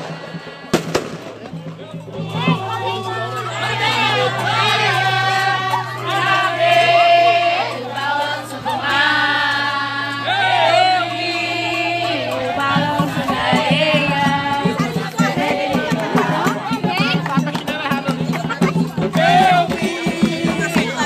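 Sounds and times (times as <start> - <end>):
crowd singing a religious chant: 0.0 - 21.0
low repeating beat: 0.0 - 21.0.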